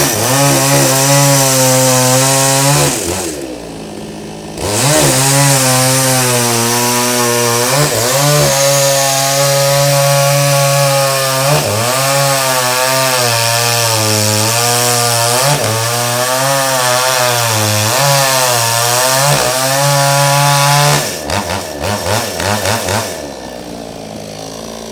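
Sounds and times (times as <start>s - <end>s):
chainsaw running: 0.0s - 24.9s.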